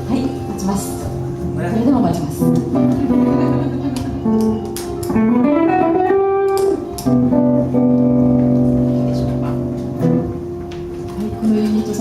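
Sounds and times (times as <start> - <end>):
guitar sustained notes: 0.0 - 11.8.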